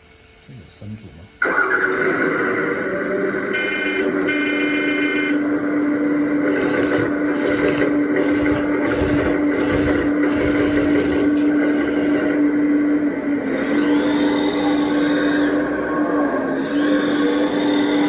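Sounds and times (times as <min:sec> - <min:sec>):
excavator motor hum: 0:01.4 - 0:18.0
rhythmic engine pulsing: 0:01.4 - 0:18.0.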